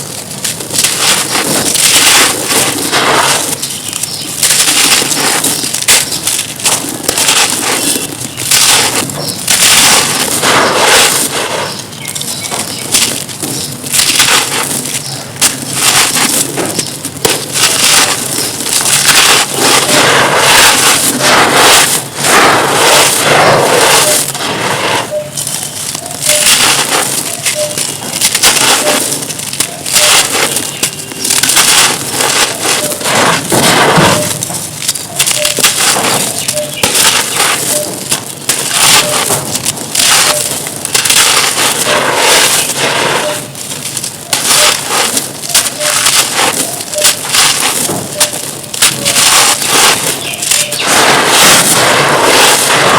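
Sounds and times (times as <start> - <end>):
crumbly material being crushed: 0.0 - 52.9.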